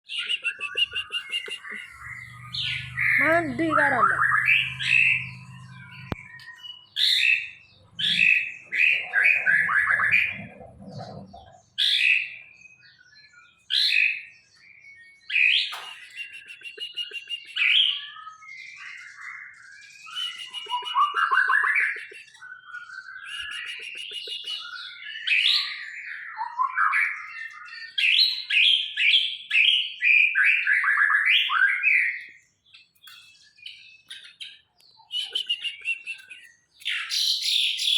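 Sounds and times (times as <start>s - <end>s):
songbird singing whistles: 0.0s - 10.4s, 11.8s - 37.9s.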